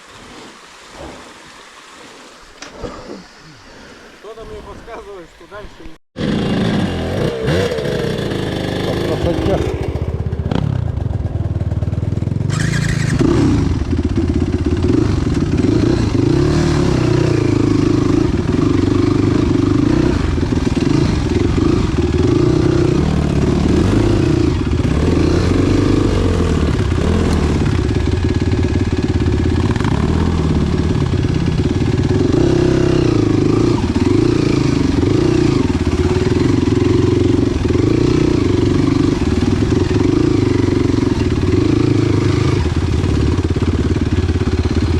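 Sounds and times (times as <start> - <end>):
motorcycle engine revving: 4.3 - 44.9.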